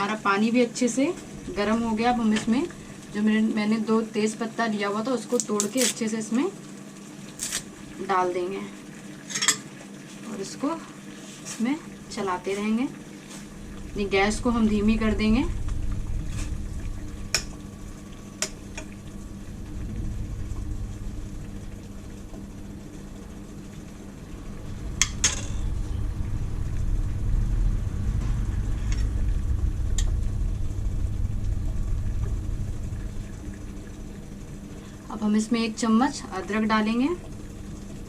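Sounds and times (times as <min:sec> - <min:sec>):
gas burner rumble: 0:00.0 - 0:38.0
near-boiling water: 0:00.0 - 0:38.0.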